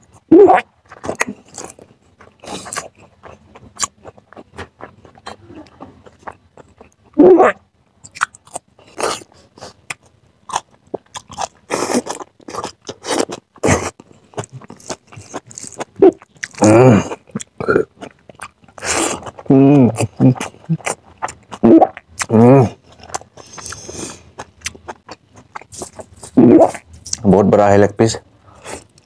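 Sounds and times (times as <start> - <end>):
person chewing and crunching food: 0.0 - 7.2, 8.0 - 27.3.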